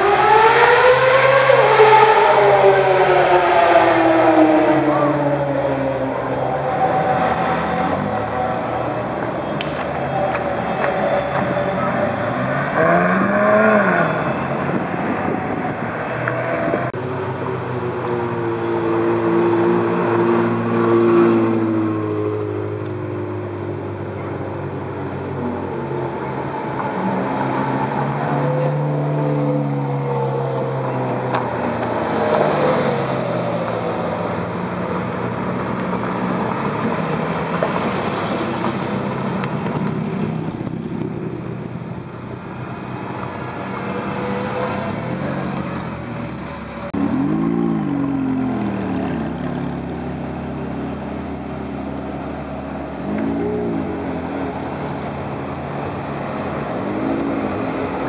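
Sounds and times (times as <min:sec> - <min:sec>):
sports car engines revving past: 0:00.0 - 0:58.0.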